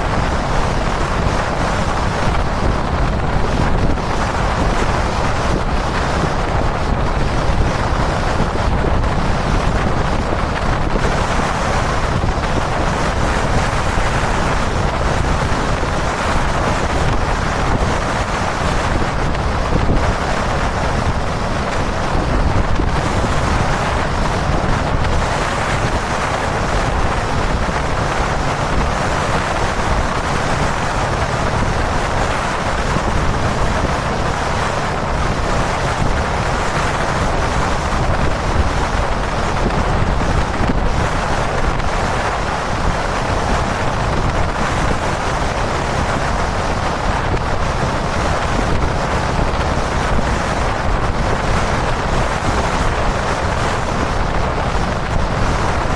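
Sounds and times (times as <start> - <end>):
road noise: 0.0 - 55.9
wind rushing over microphone: 0.0 - 55.9.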